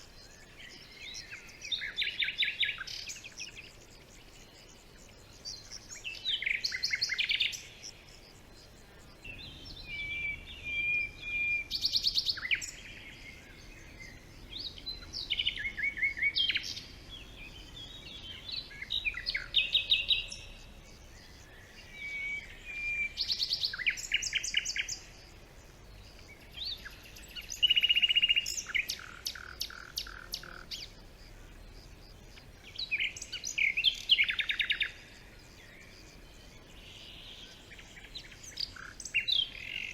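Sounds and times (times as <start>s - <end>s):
songbird trills and chirps: 0.0s - 39.9s.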